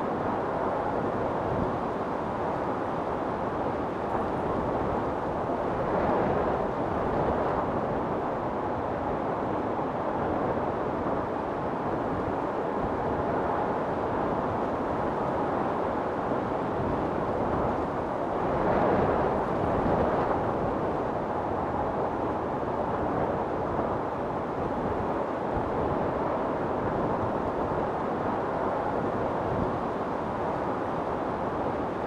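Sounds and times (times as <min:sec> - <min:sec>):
wind storm blowing hard: 0:00.0 - 0:32.0.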